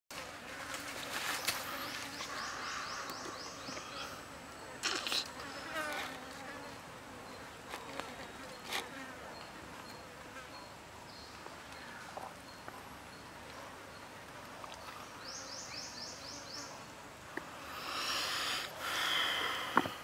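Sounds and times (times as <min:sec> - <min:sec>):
insects buzzing: 0:00.2 - 0:20.0.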